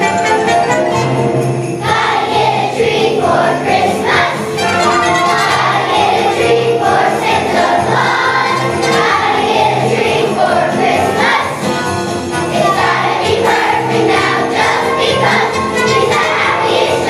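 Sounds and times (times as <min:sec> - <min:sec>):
sleigh bells jingling: 0:00.0 - 0:17.0
children's choir singing: 0:01.2 - 0:17.0.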